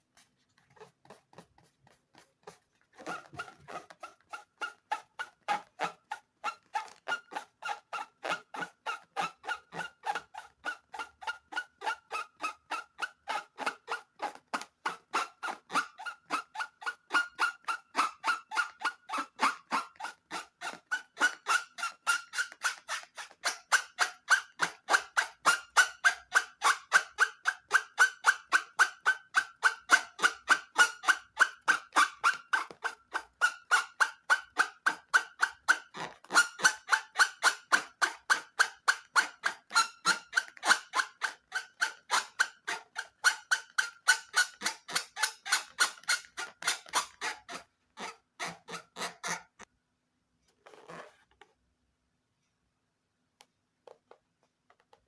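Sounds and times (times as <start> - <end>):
rubber balloon squeaking: 0.0 - 49.7, 50.6 - 51.4.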